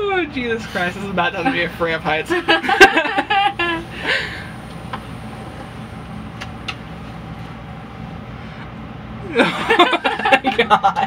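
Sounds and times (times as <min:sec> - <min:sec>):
elevator machinery humming: 0:00.0 - 0:11.0.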